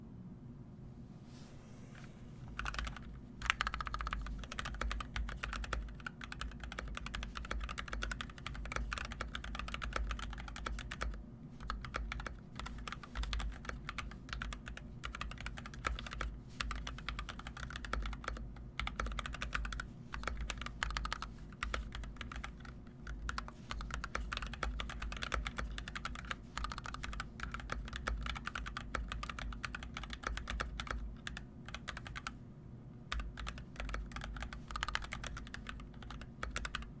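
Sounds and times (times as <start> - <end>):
fast typing on mechanical keyboard: 2.5 - 32.4, 33.1 - 37.0.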